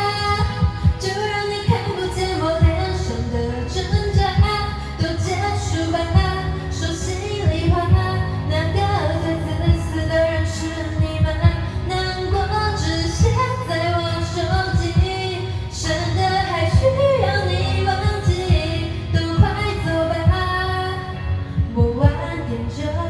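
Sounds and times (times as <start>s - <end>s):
karaoke backing track: 0.0s - 23.0s
woman singing pop ballad: 0.0s - 23.0s.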